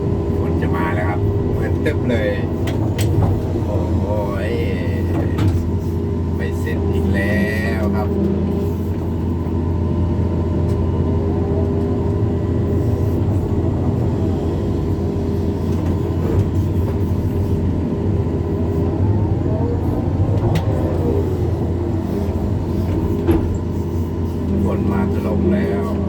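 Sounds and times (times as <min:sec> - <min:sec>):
excavator diesel engine: 0:00.0 - 0:26.0
hydraulic whine: 0:00.0 - 0:26.0.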